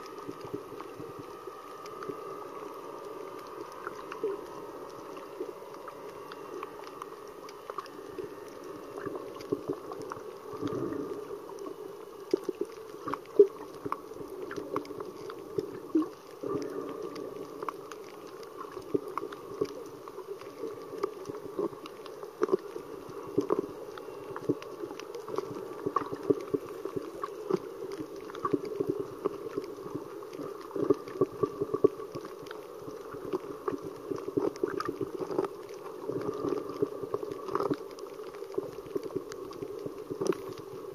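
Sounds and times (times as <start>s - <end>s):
muffled underwater noise: 0.0s - 40.9s
crackle of sharp clicks: 3.0s - 40.9s.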